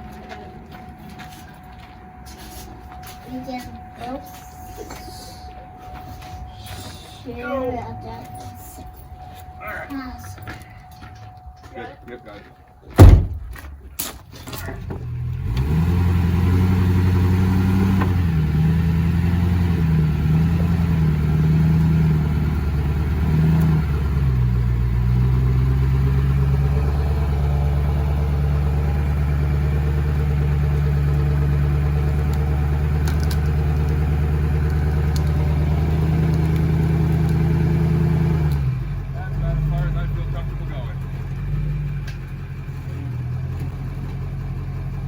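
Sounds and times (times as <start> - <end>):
diesel engine under load: 0.0 - 45.0.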